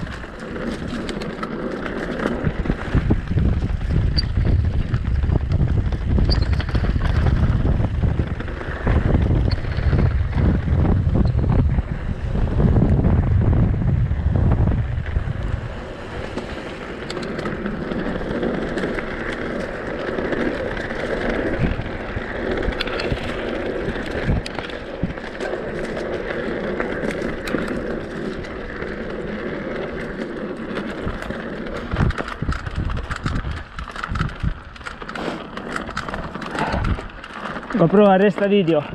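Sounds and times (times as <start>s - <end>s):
bike clicks: 0.0s - 13.4s, 14.0s - 38.9s
wind buffeting microphone: 0.0s - 34.9s, 35.6s - 38.9s
bike tyres rolling on dirt trail: 0.0s - 38.9s.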